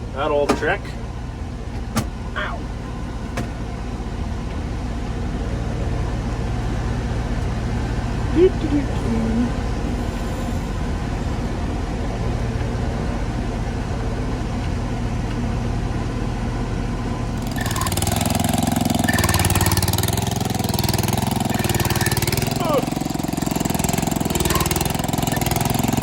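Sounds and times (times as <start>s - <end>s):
combine engine idling: 0.0s - 26.0s.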